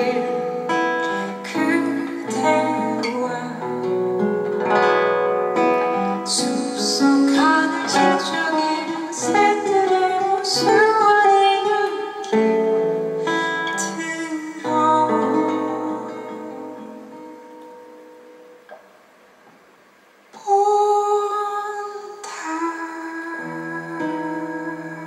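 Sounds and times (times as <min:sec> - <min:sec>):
woman singing: 0:00.0 - 0:04.7, 0:05.9 - 0:17.5, 0:20.4 - 0:25.0
guitar accompaniment: 0:00.0 - 0:25.0.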